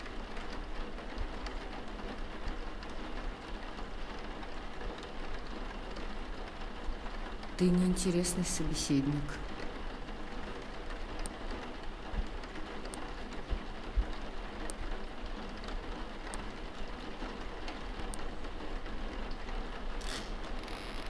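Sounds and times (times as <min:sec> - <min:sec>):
steady hiss like rain: 0:00.0 - 0:21.0.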